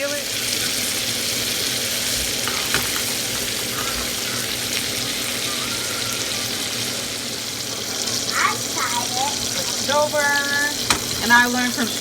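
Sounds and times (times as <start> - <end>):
steak sizzling in a skillet: 0.0 - 12.0.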